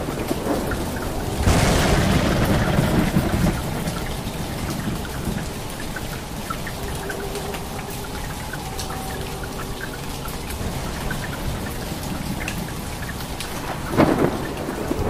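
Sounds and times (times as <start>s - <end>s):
drips: 0.0s - 15.0s
steady rainfall: 0.0s - 15.0s
thunder rumble: 0.0s - 15.0s.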